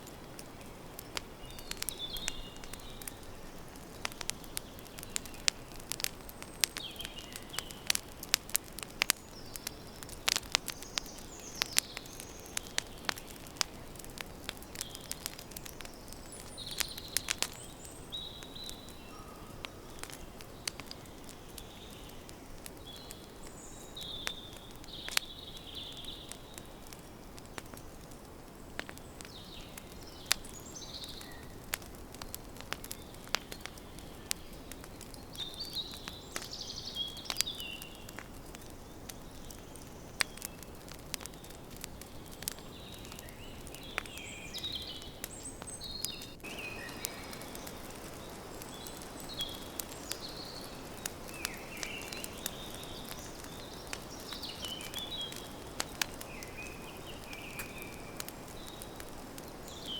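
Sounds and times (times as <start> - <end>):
campfire crackling: 0.0 - 59.9
small birds chirping: 0.0 - 59.9.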